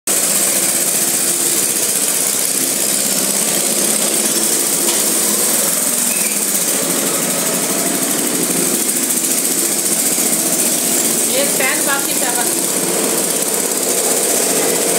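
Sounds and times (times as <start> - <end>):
go-kart engines running: 0.1 - 14.9.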